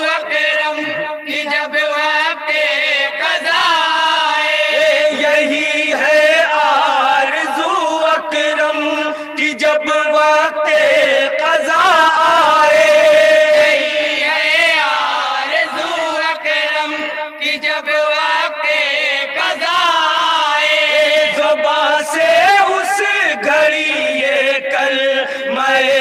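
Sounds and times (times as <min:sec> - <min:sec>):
men singing devotional song: 0:00.0 - 0:26.0.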